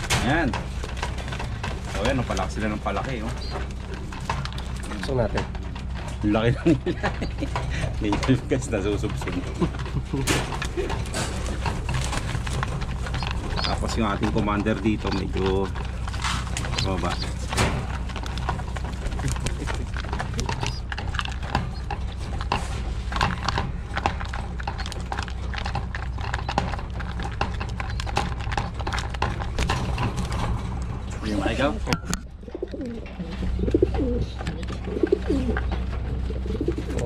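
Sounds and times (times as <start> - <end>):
low hum: 0.0 - 37.0
pigeons cooing: 0.0 - 37.0
pigeons pecking seed: 0.0 - 37.0.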